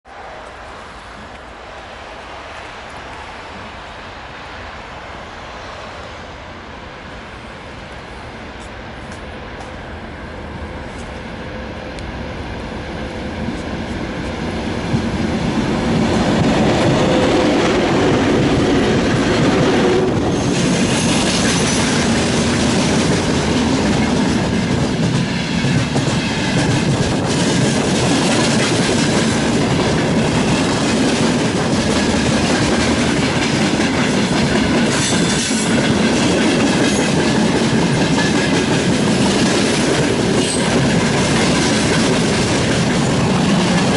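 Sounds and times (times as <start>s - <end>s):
freight train passing: 0.0s - 43.9s.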